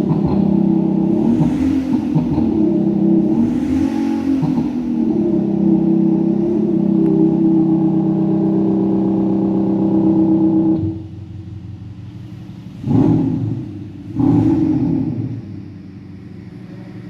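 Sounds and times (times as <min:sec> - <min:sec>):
diesel car engine revving: 0:00.0 - 0:17.0.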